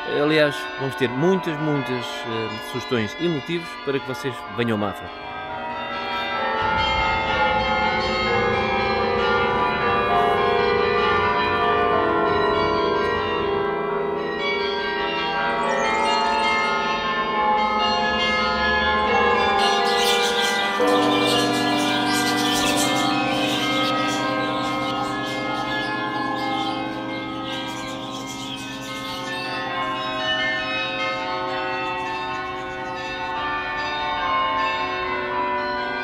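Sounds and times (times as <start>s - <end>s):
bells ringing: 0.0s - 36.0s.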